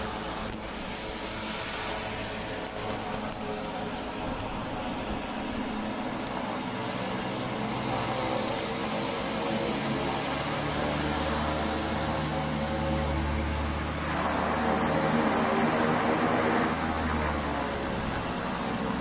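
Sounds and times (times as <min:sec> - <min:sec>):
airplane engines droning: 0:00.0 - 0:19.0
faint high whine: 0:00.0 - 0:19.0.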